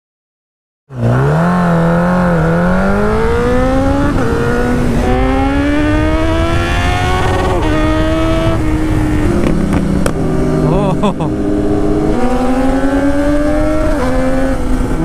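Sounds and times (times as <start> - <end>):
motorcycle engine accelerating: 0.9 - 15.0.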